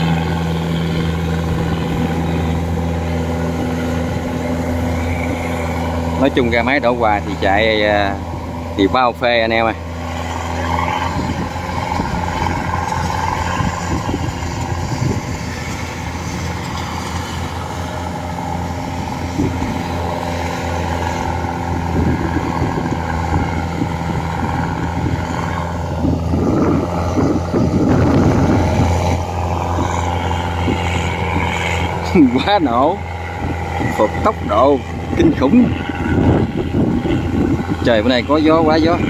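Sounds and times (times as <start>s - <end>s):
combine harvester engine hum: 0.0s - 39.0s.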